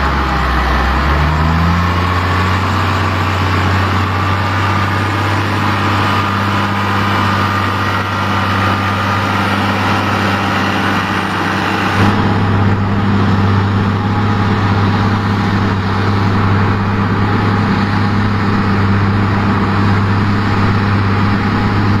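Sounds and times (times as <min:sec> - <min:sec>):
tractor diesel engine humming: 0:00.0 - 0:22.0.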